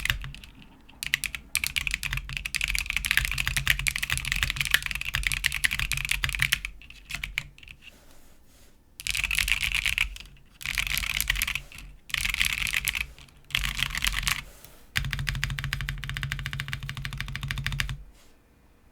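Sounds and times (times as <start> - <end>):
fast typing on mechanical keyboard: 0.0 - 7.9, 9.0 - 18.0.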